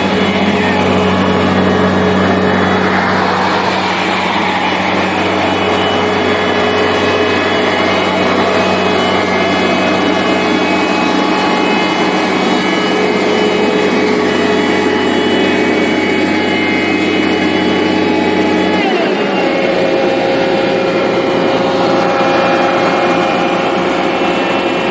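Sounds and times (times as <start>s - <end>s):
construction machinery engine drone: 0.0s - 24.9s.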